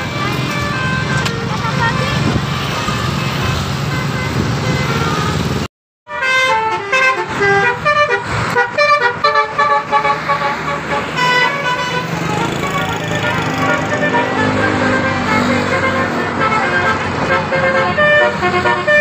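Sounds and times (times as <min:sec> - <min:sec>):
bus horn playing fast melody: 0:00.0 - 0:19.0.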